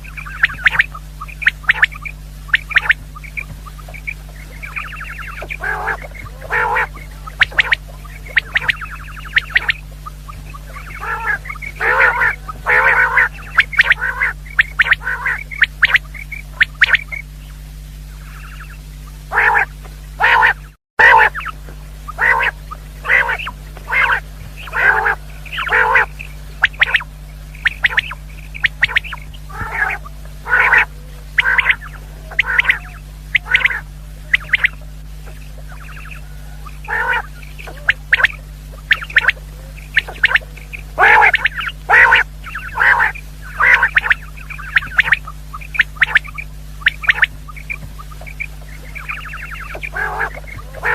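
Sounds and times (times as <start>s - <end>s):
quail calling: 0.0s - 50.9s
steady low hum: 0.0s - 50.9s.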